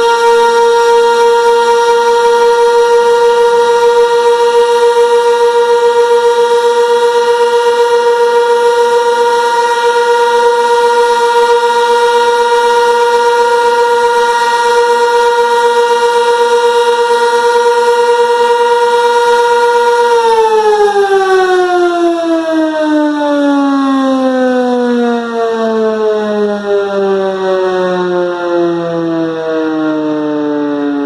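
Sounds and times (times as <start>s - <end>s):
warning siren steady tone: 0.0s - 31.0s.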